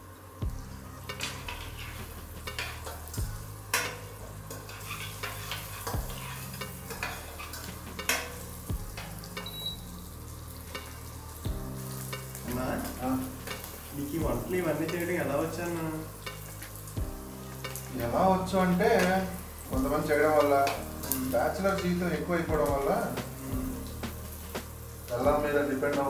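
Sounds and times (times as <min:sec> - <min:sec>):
induction cooktop humming: 0:00.0 - 0:26.0
oil sizzling: 0:00.0 - 0:26.0.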